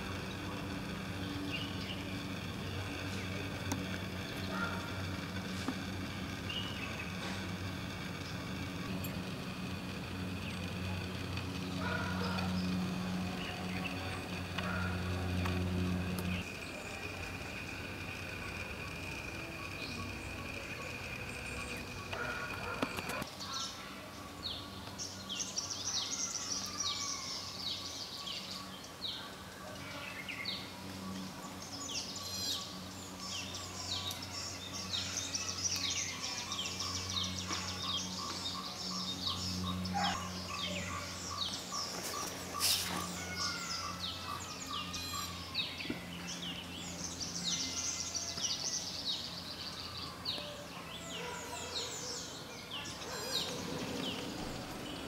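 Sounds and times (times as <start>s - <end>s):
low steady hum: 0.0s - 50.4s
birds chirping: 0.0s - 55.0s.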